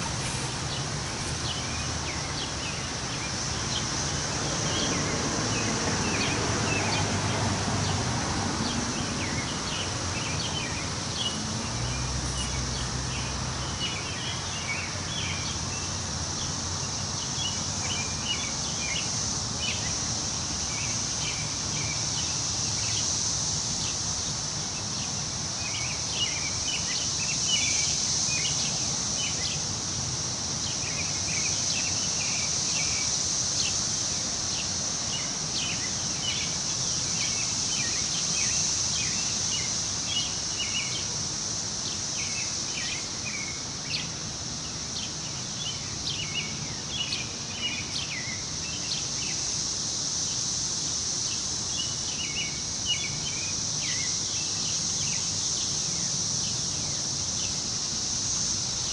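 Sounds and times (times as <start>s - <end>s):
high insect drone: 0.0s - 58.9s
insect chirps: 0.0s - 58.9s
wind in the trees: 0.0s - 58.9s.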